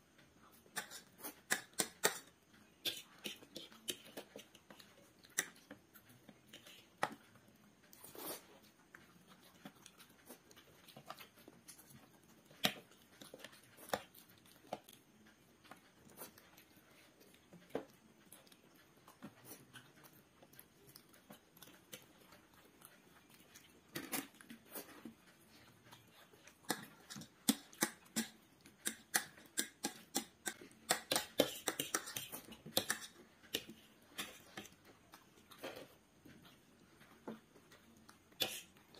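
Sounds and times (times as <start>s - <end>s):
chewing: 0.1s - 38.9s.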